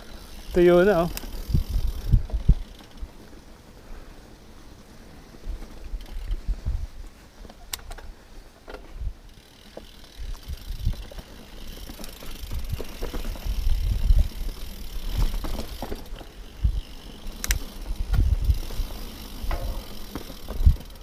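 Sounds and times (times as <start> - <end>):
bike rattling over bumps: 0.0 - 6.9, 7.6 - 21.0
bike tyres rolling over stones: 0.0 - 21.0.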